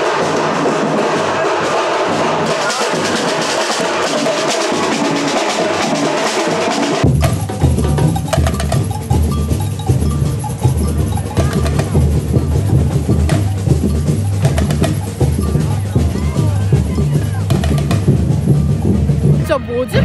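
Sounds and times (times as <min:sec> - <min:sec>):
music: 0:00.0 - 0:20.0
street drum band playing: 0:00.0 - 0:20.0.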